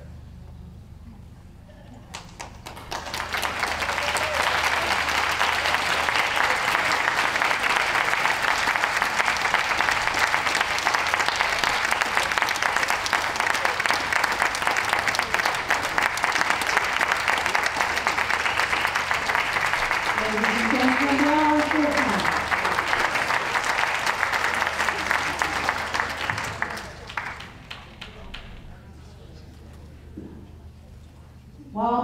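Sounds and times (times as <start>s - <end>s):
audience applauding: 2.1s - 28.9s.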